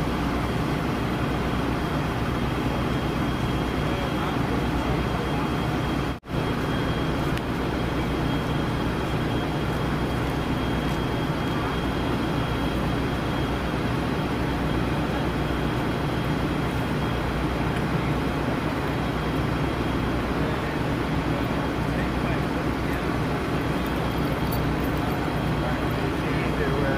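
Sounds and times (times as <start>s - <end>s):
faint high whine: 0.0s - 26.9s
vehicle engine idling: 0.0s - 26.9s.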